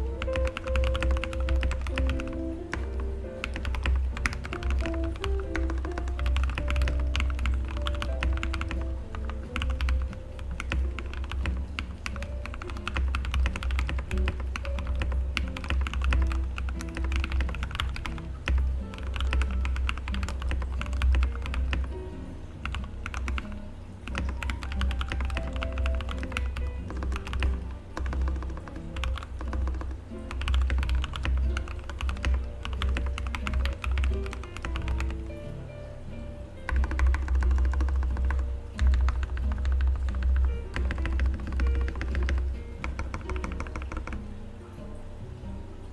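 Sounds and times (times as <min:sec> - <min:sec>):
mechanical keyboard typing: 0:00.0 - 0:22.0, 0:22.6 - 0:35.4, 0:36.6 - 0:44.2.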